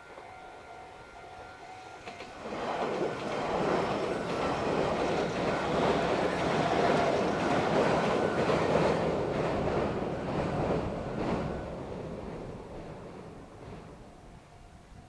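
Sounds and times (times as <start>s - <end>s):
train wheels rumbling and clacking: 1.4s - 14.3s.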